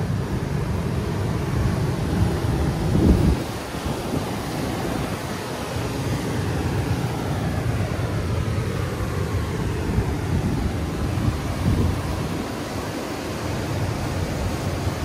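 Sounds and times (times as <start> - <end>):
ocean surf rumbling: 0.0 - 15.0
wind buffeting microphone: 0.0 - 15.0.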